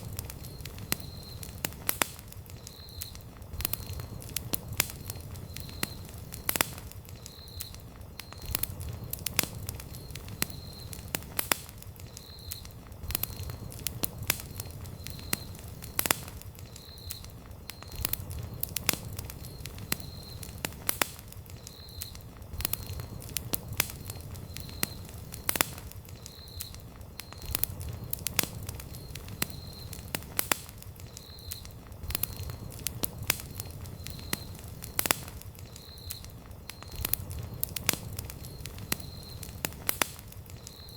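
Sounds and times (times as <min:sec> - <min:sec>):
campfire crackling: 0:00.0 - 0:40.9
fire snaps and pops: 0:00.0 - 0:40.9.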